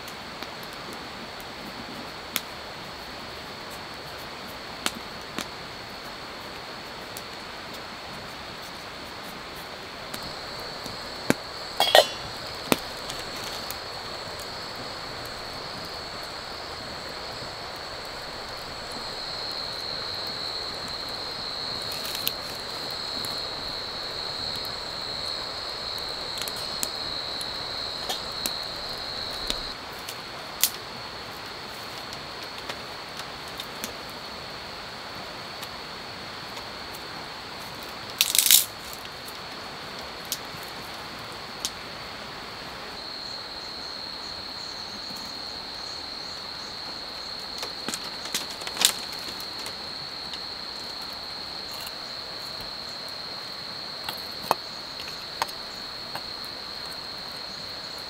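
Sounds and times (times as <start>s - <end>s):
wood fire crackling: 0.0s - 34.7s, 36.4s - 41.8s, 43.4s - 58.0s.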